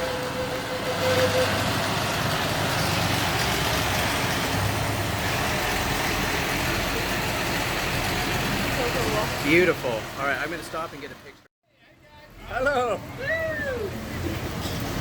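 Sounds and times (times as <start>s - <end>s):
truck engine rumbling: 0.0s - 11.5s, 12.2s - 15.0s.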